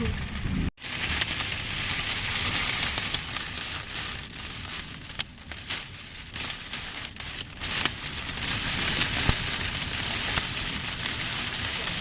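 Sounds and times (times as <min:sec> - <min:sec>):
heavy rain pouring: 0:00.0 - 0:12.0
strong wind rumble: 0:00.0 - 0:12.0.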